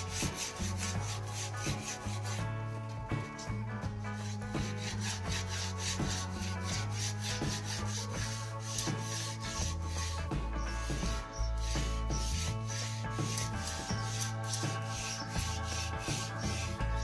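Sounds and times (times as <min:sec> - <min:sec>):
sandpaper rubbing on wood: 0:00.0 - 0:02.4, 0:04.1 - 0:17.0
background music with sustained tones: 0:00.0 - 0:17.0.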